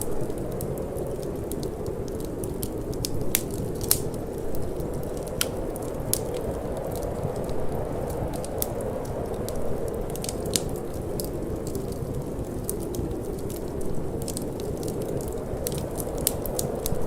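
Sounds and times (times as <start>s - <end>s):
low rush of wind: 0.0s - 17.0s
wood fire crackling: 0.0s - 17.0s.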